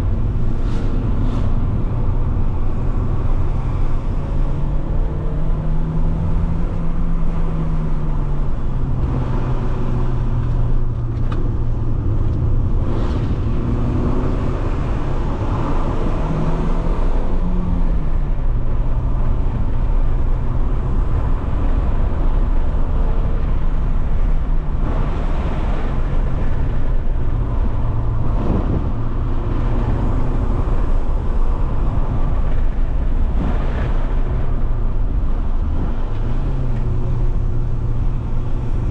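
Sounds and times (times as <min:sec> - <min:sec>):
car engine running while driving: 0:00.0 - 0:38.9
road noise: 0:00.0 - 0:38.9.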